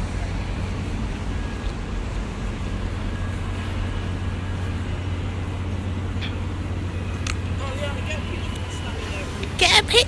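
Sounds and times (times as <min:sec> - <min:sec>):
vehicles rumbling and humming: 0:00.0 - 0:10.0.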